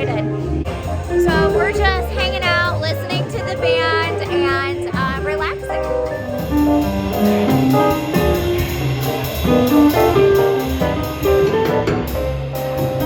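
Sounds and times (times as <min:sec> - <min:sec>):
jazz combo playing: 0:00.0 - 0:13.0.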